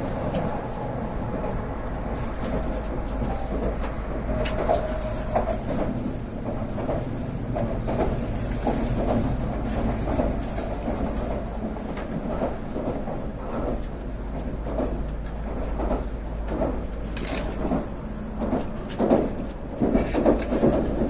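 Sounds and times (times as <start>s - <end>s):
train running gear rumble: 0.0s - 21.0s.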